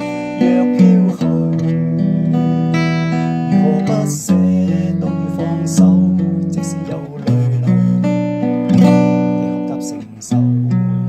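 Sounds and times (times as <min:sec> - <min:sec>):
fingerpicked acoustic guitar: 0:00.0 - 0:11.0.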